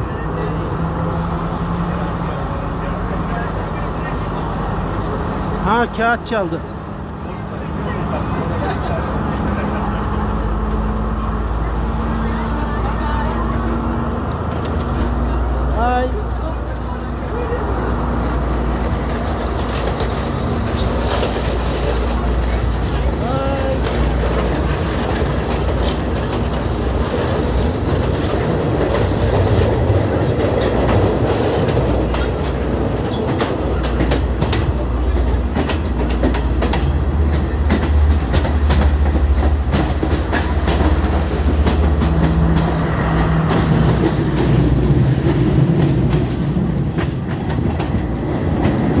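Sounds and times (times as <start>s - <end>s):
train rumbling along track: 0.0s - 49.0s
wheels clattering over rails: 2.8s - 49.0s.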